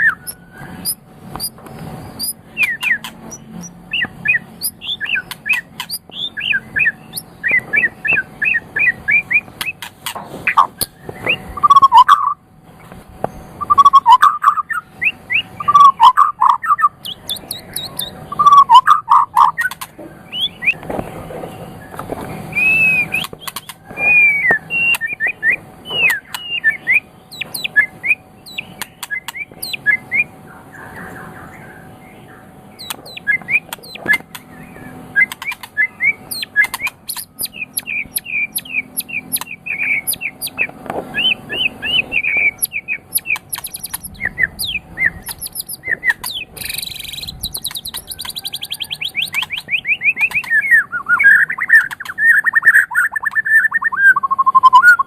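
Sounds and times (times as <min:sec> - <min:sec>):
bird singing whistled song: 0:00.0 - 0:09.9, 0:10.5 - 0:12.4, 0:13.3 - 0:20.8, 0:21.7 - 0:55.0
bird rattling trill: 0:00.0 - 0:12.4, 0:13.6 - 0:20.8, 0:21.7 - 0:30.2, 0:32.7 - 0:55.0
faint steady hum: 0:00.0 - 0:55.0.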